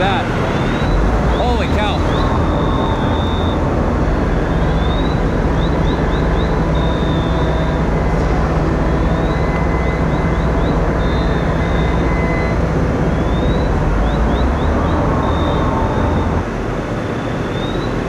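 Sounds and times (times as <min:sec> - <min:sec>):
electronic siren signal: 0:00.0 - 0:16.6
fire engines and pumps running: 0:00.0 - 0:18.0.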